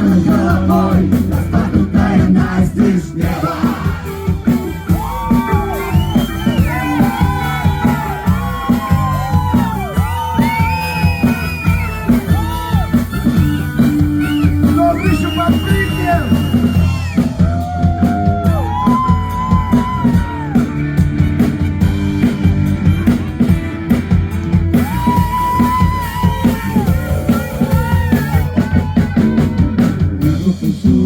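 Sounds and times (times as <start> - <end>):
rock band playing instrumental: 0.0 - 31.0.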